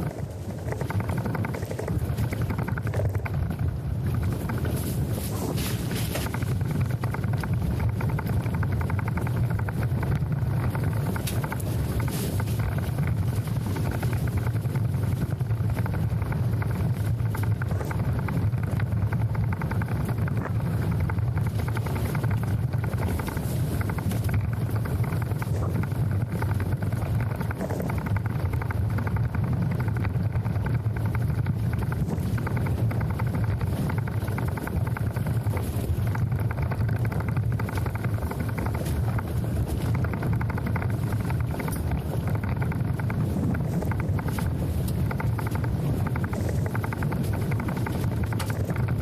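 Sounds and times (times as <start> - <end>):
low rumble: 0.0 - 49.0.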